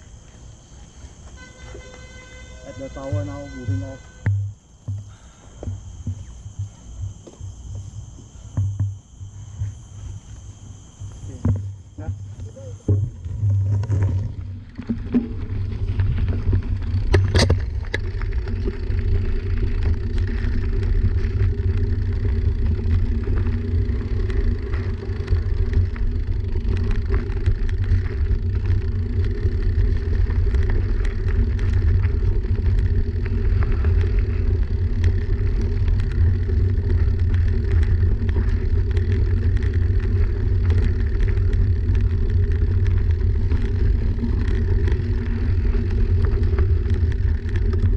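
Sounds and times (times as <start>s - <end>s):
bike rattles and clicks: 0.0s - 47.9s
tyres crunching on gravel: 0.0s - 47.9s.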